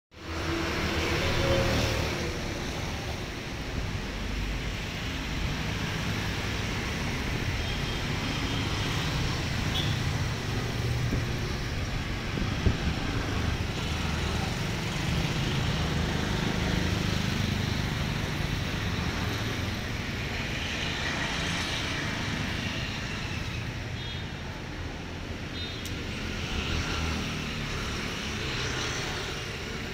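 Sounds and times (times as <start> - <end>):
street traffic rumble: 0.1 - 29.9.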